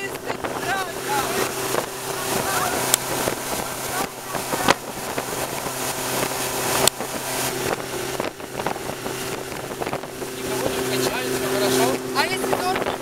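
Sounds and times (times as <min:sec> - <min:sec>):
outboard motor running: 0:00.0 - 0:13.0
water rushing past hull: 0:00.0 - 0:13.0
wind buffeting microphone: 0:00.0 - 0:13.0.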